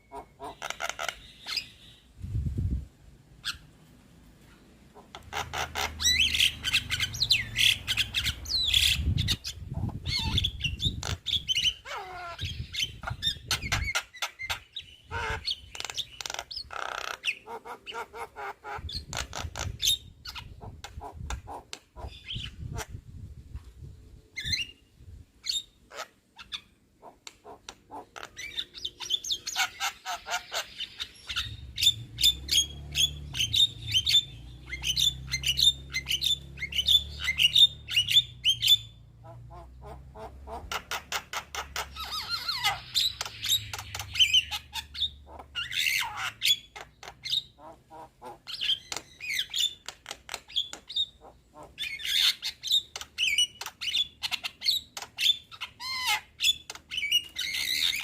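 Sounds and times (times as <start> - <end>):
bird chattering and calling: 0.0 - 2.1, 4.5 - 23.0, 25.4 - 58.0.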